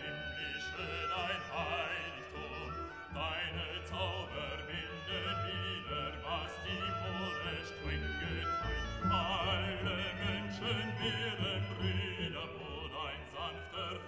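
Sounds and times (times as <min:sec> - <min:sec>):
classical-style music: 0:00.0 - 0:14.0.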